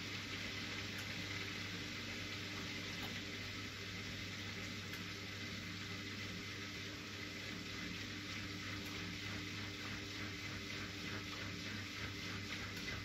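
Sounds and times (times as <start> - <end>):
washing machine hum: 0.0 - 13.0
water swishing in washing machine: 0.0 - 13.0.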